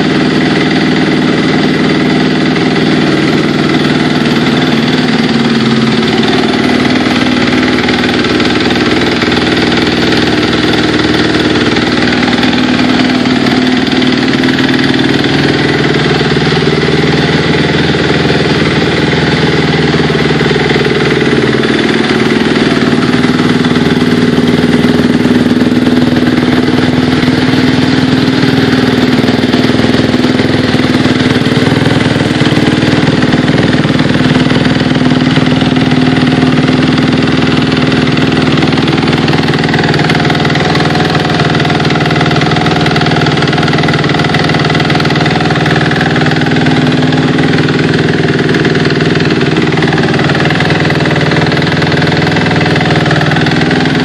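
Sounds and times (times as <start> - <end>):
dirt bike engine idling: 0.0 - 54.0.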